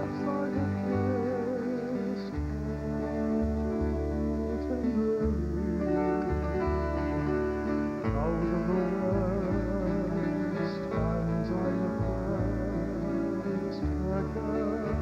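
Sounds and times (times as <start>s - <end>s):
acoustic string band playing: 0.0s - 15.0s
person singing with vibrato: 0.0s - 15.0s.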